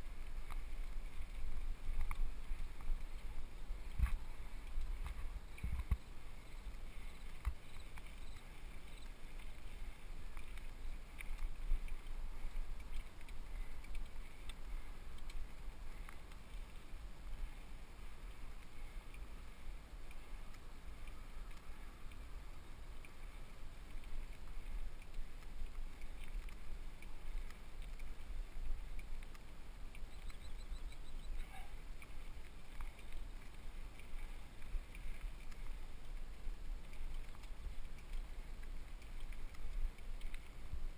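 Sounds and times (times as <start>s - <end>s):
mountain bike riding rumble: 0.0s - 40.9s.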